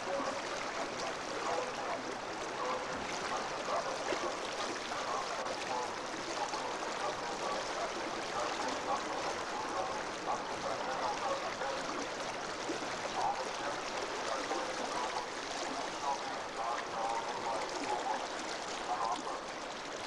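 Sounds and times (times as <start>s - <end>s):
faint voices: 0.0s - 20.0s
whitewater rapids rushing: 0.0s - 20.0s.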